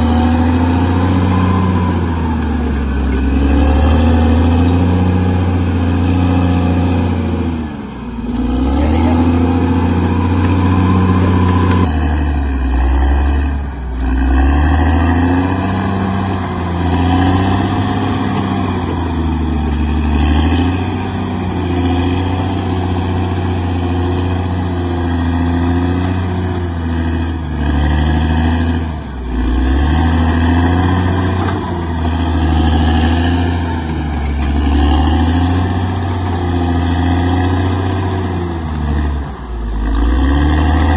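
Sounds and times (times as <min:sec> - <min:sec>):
bulldozer engine under load: 0:00.0 - 0:40.9.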